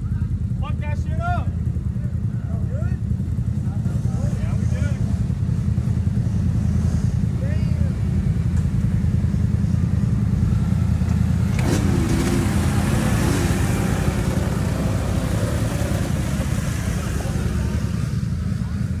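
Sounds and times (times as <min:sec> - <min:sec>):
atv engine revving: 0:00.0 - 0:19.0
atv engines rumbling: 0:00.0 - 0:19.0.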